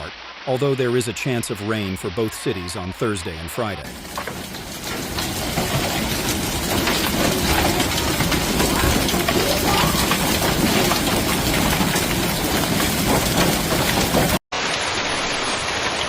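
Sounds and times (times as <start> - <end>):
heavy rain on hard surfaces: 0.0 - 16.0.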